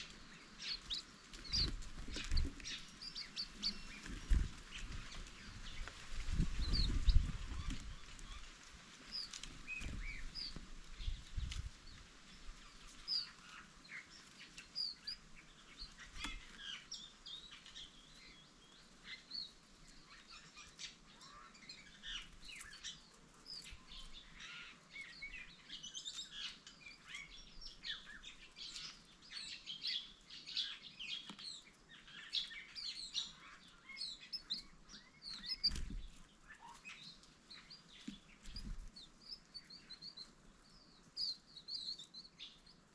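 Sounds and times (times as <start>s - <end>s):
birds chirping and twittering: 0.0s - 42.9s.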